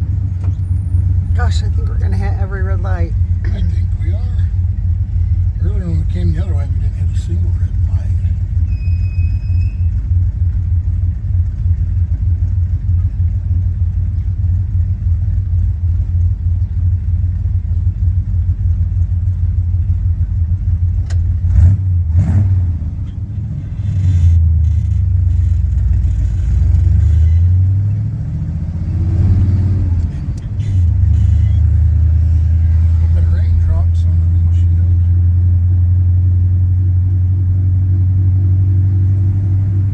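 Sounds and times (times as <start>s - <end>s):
car engine and exhaust revving: 0.0s - 39.9s.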